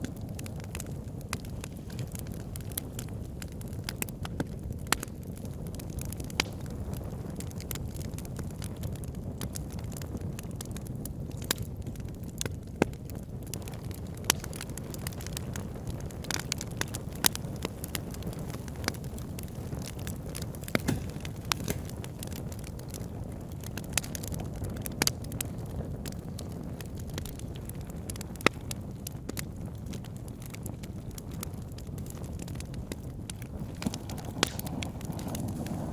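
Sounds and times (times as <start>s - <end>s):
low rumble of flames: 0.0s - 35.9s
wood fire crackling and popping: 0.0s - 35.9s.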